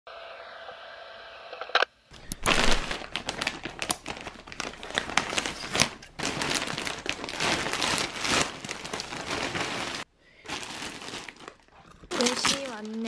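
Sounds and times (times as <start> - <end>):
plastic bag crinkling: 2.1 - 13.0.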